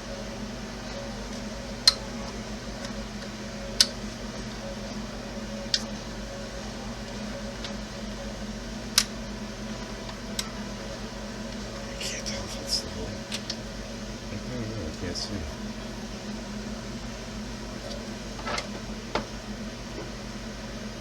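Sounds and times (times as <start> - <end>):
low fan hum: 0.0 - 21.0.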